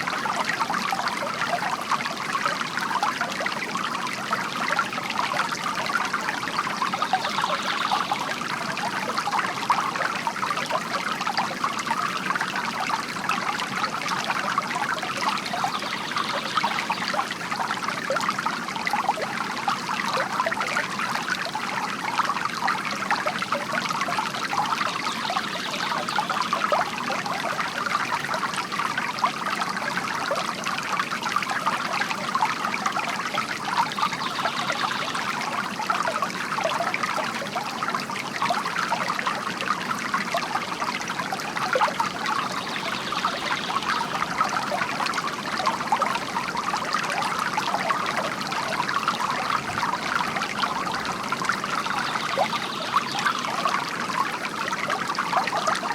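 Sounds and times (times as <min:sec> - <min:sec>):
small water splashes: 0:00.0 - 0:55.9
water trickling from bamboo spout: 0:00.0 - 0:55.9.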